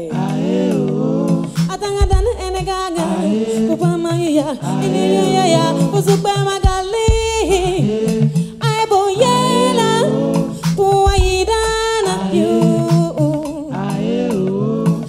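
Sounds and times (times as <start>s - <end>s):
woman singing: 0.0s - 13.8s
live band playing: 0.0s - 15.0s.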